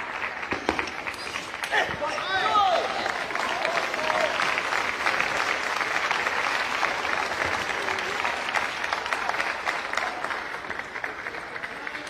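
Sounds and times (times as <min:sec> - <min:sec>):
spectators applauding: 0:00.0 - 0:12.0.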